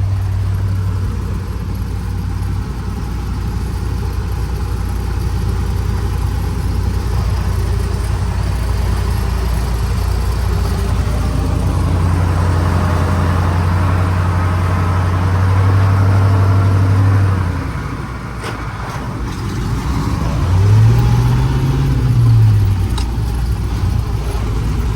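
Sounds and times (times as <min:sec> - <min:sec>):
engine revving: 0:00.0 - 0:24.9
truck engine running: 0:00.0 - 0:24.9.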